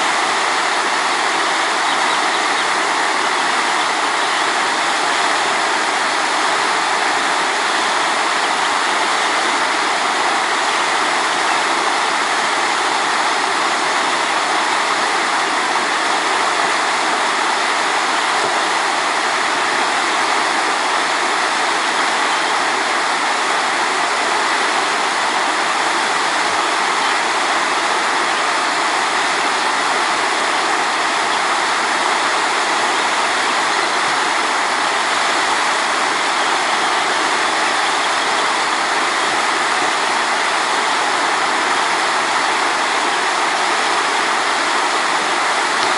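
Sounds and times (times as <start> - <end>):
river rushing over rocks: 0.0 - 45.9.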